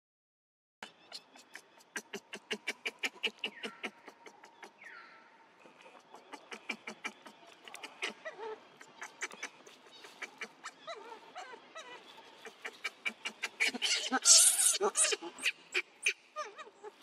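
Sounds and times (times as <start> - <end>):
monkeys squeaky calls: 1.1 - 4.8, 6.4 - 17.0.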